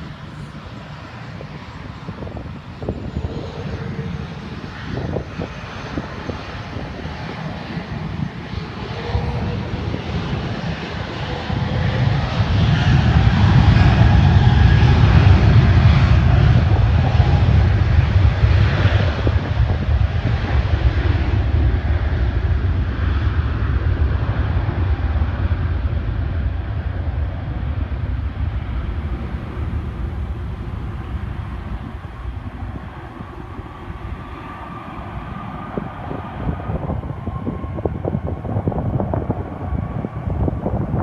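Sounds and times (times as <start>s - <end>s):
jet engine rumble: 0.0s - 41.0s
wind buffeting microphone: 0.0s - 41.0s.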